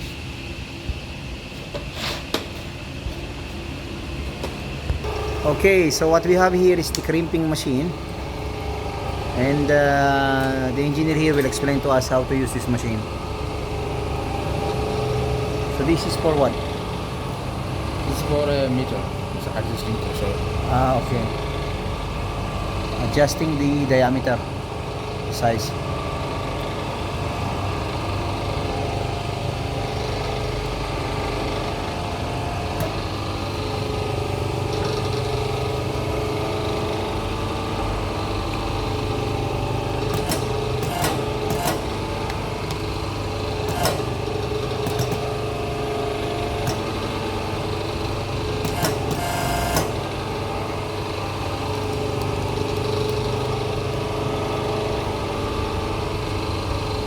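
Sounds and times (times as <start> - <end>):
machine power unit humming: 0.0 - 57.0.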